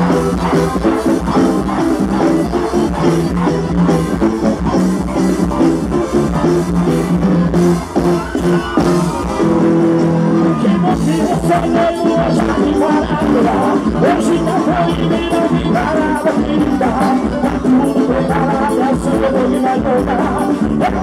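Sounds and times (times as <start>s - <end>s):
gospel band playing: 0.0s - 21.0s
steady drum beat: 0.0s - 21.0s.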